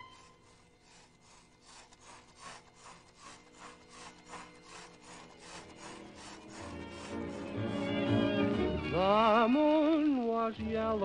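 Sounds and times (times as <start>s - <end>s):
rhythmic scraping strokes: 0.0s - 9.4s.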